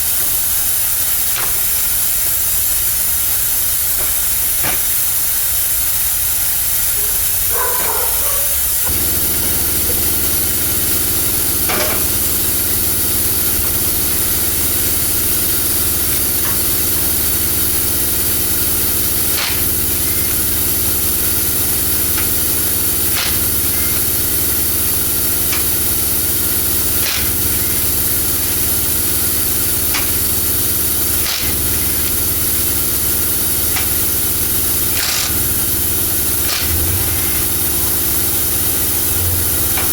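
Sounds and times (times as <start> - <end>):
loud hiss of air or spray: 0.0 - 39.9
low machine hum: 7.0 - 39.9.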